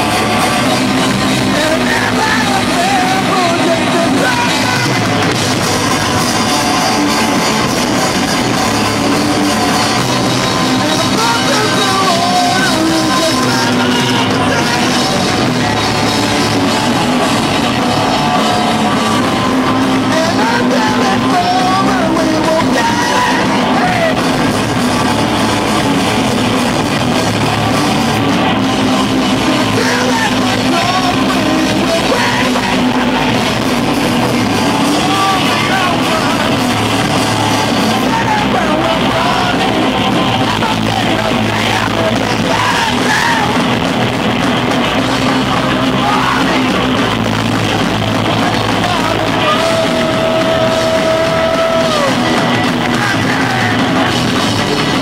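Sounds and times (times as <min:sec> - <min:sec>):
person singing: 0:00.0 - 0:55.0
rock band playing loudly: 0:00.0 - 0:55.0.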